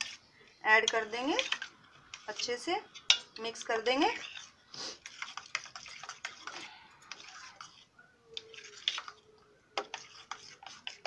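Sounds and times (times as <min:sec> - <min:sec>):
spoon stirring in steel bowl: 0:00.0 - 0:11.0.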